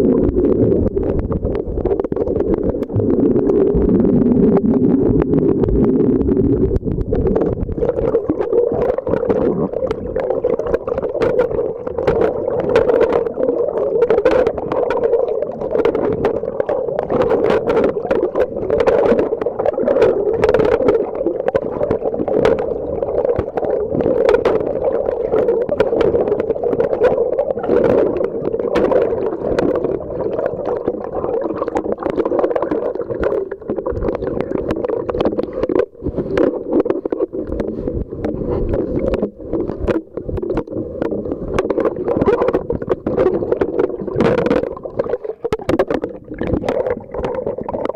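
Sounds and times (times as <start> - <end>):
muffled underwater hum: 0.0 - 47.9
sharp clicks and crackles: 0.1 - 47.9.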